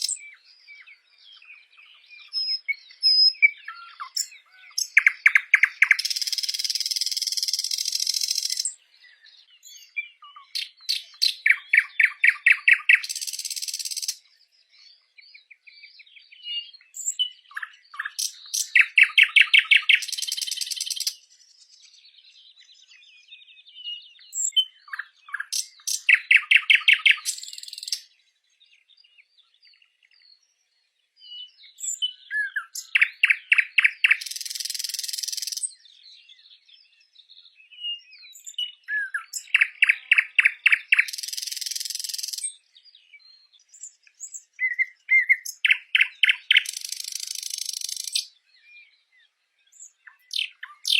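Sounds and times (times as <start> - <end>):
faint bird chirps: 0.0 - 50.9
songbird singing with buzzy trill: 0.0 - 50.9.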